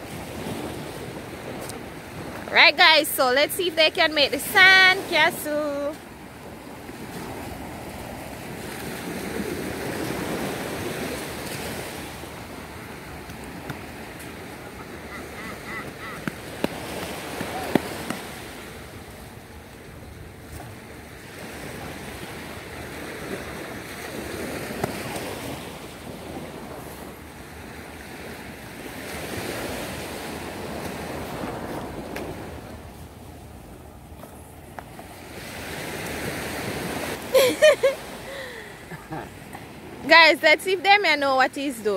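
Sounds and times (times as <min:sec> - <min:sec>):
waves breaking on beach: 0:00.0 - 0:41.9.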